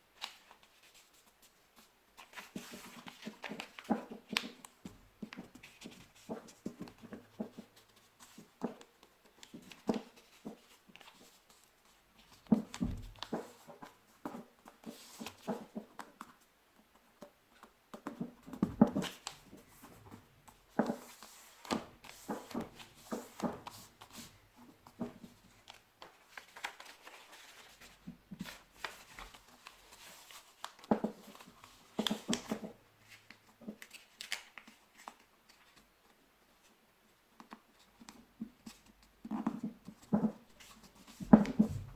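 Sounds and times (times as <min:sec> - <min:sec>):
paper rustling and creasing: 0:00.2 - 0:14.0, 0:17.6 - 0:35.9, 0:37.4 - 0:41.9.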